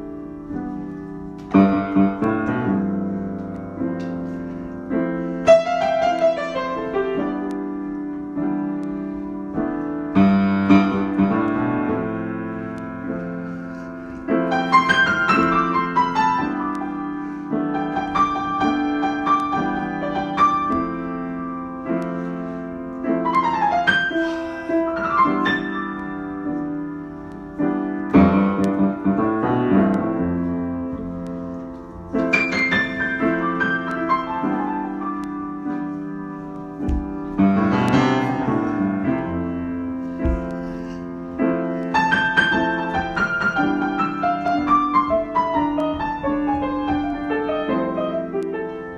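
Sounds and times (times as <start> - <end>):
solo piano improvising: 0.0 - 48.9.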